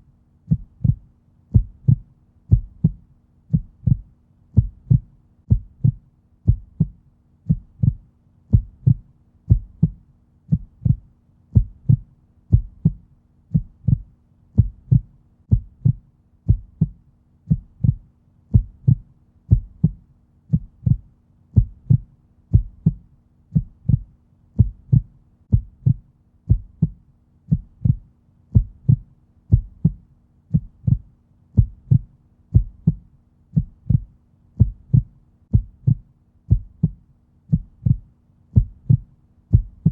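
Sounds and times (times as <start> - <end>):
heartbeat thumps: 0.5 - 39.9.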